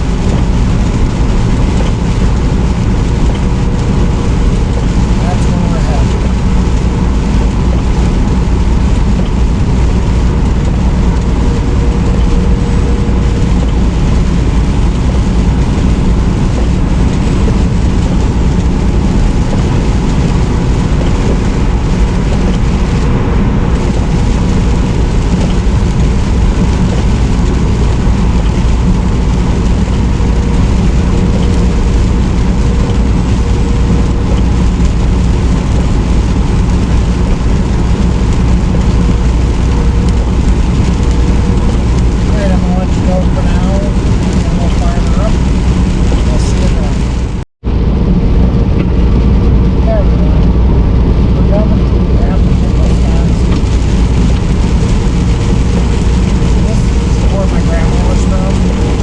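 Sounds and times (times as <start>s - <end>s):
road noise: 0.0s - 59.0s
truck engine drone: 0.0s - 59.0s.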